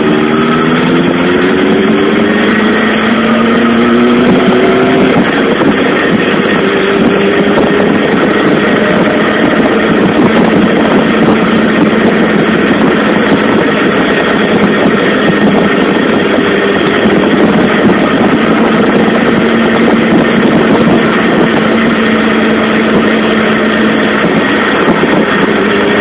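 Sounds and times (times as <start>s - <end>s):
motorcycle engine steady note: 0.0s - 26.0s
wind and road noise: 0.0s - 26.0s.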